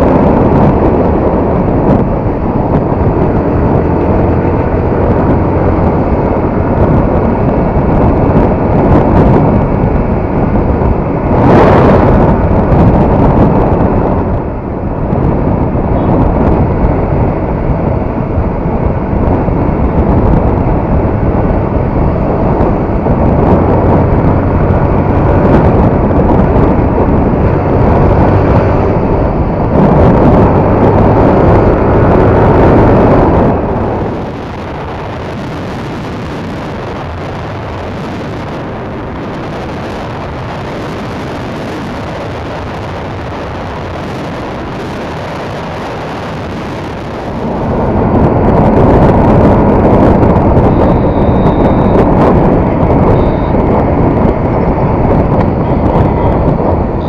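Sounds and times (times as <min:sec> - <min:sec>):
wind rush on microphone: 0:00.0 - 0:57.0
motorcycle engine running: 0:00.1 - 0:57.0.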